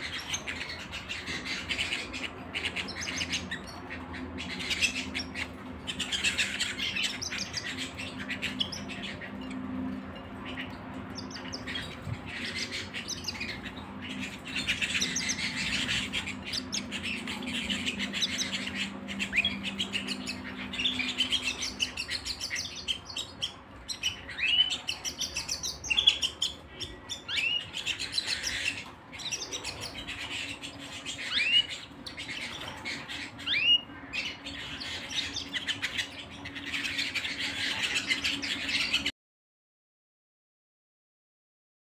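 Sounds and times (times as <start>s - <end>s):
canaries chirping and trilling: 0.0s - 39.1s.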